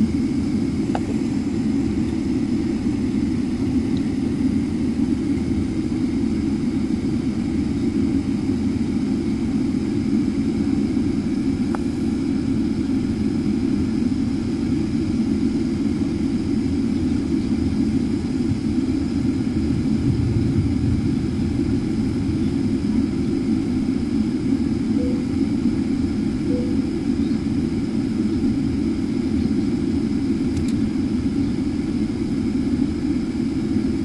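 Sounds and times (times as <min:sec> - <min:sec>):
jet engines low rumble: 0:00.0 - 0:34.0.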